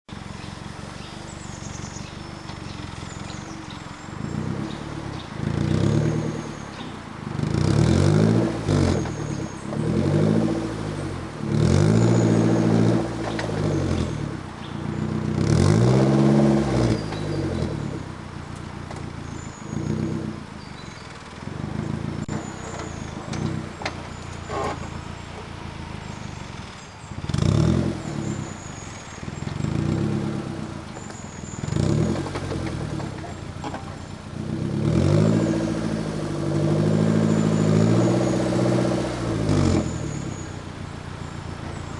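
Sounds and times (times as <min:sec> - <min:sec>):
car engine idling and revving: 0:00.0 - 0:41.9
birds chirping faintly: 0:00.1 - 0:41.9.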